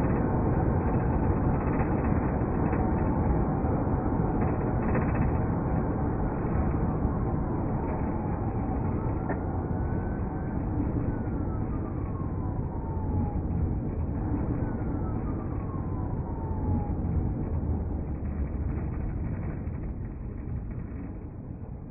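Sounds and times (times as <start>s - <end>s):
distant emergency siren wailing: 0.0s - 21.1s
steady low rumble: 0.0s - 21.9s.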